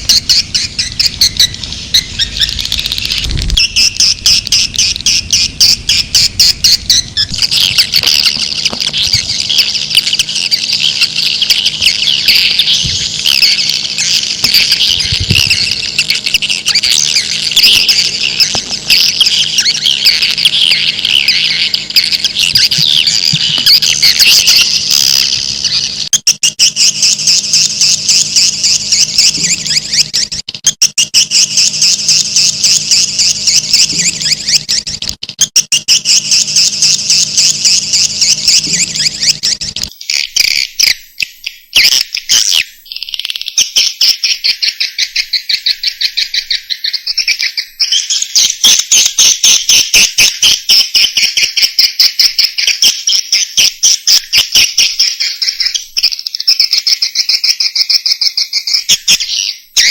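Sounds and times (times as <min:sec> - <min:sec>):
swiftlets twittering: 0:00.0 - 0:57.8.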